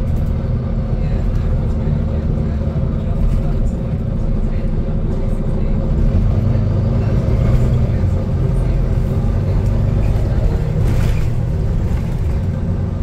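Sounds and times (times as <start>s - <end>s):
bus engine droning: 0.0s - 13.0s
road noise: 0.0s - 13.0s.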